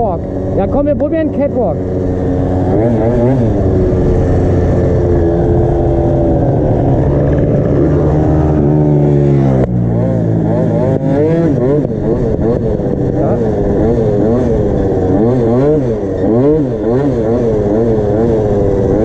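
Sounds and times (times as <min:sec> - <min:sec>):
two-stroke scooter engine revving: 0:00.0 - 0:19.0.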